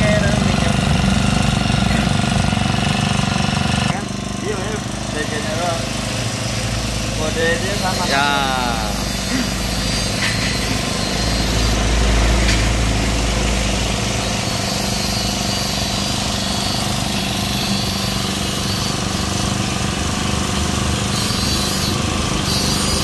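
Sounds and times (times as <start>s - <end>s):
brush cutter engine idling: 0.0s - 23.0s.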